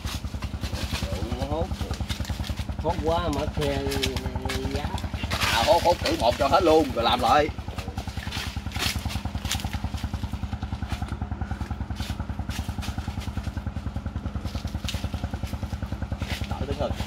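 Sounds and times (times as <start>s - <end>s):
small engine puttering: 0.0s - 17.0s.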